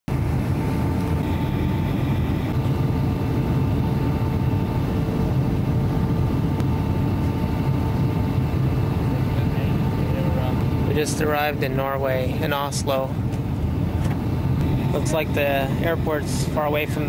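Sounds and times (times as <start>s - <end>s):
airliner engines droning: 0.1s - 17.0s
constant hum: 0.1s - 17.0s.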